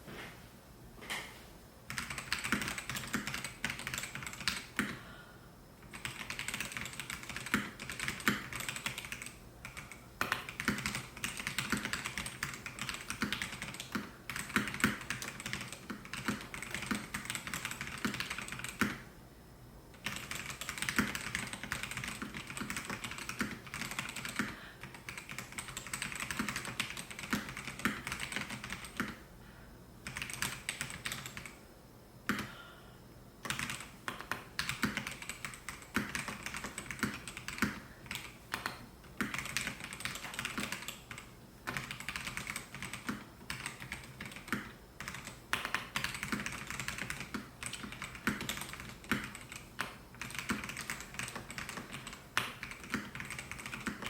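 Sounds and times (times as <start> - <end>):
mechanical keyboard typing: 1.9 - 5.0, 5.9 - 19.0, 20.0 - 29.2, 30.0 - 31.6, 33.4 - 54.0.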